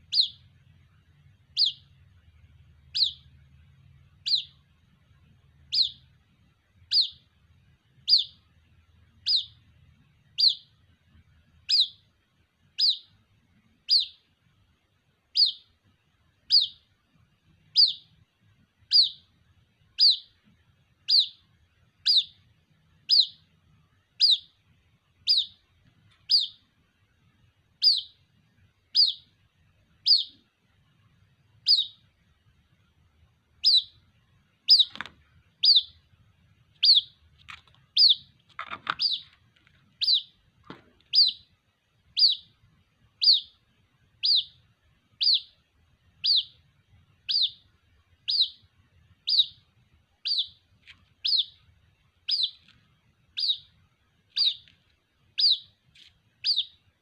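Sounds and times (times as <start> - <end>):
bird chick peeping: 0.0 - 32.6, 33.2 - 57.0.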